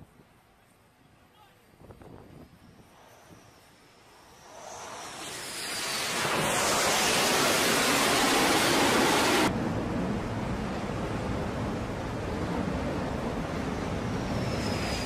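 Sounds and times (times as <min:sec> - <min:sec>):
wind and sea: 0:01.7 - 0:15.0
jet engine rush: 0:02.0 - 0:15.0.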